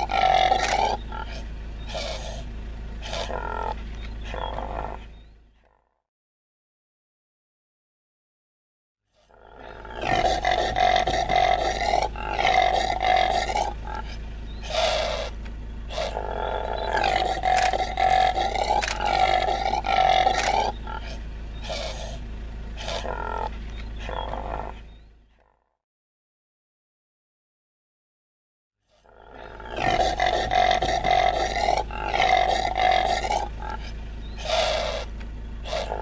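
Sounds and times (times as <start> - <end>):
antelope rasping calls: 0.0 - 5.8, 9.2 - 25.6, 28.9 - 36.0.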